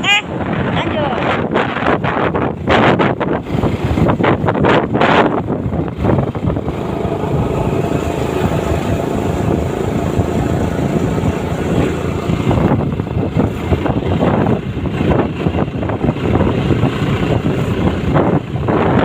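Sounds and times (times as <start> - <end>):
vehicle engine and road noise: 0.0 - 19.0
wind buffeting microphone: 0.0 - 19.0.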